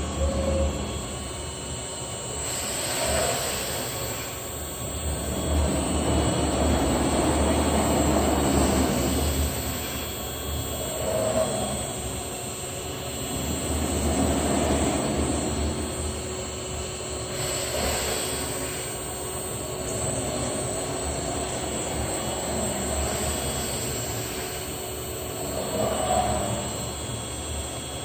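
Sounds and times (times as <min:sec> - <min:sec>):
cnc router mechanical whir: 0:00.0 - 0:28.0.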